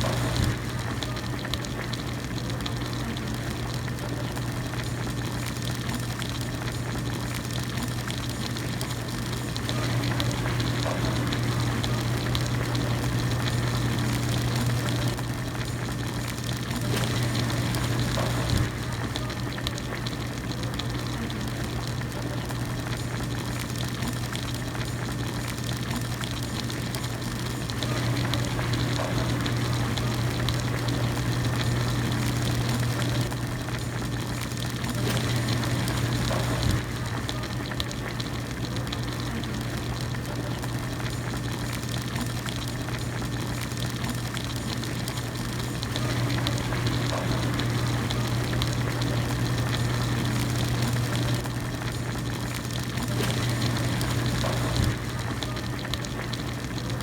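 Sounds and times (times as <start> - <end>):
broth bubbling: 0.0 - 57.0.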